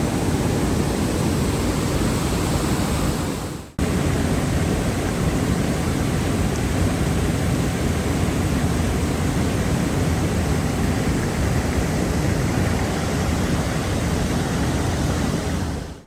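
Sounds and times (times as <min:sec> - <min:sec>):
rushing river and waterfall: 0:00.0 - 0:16.0.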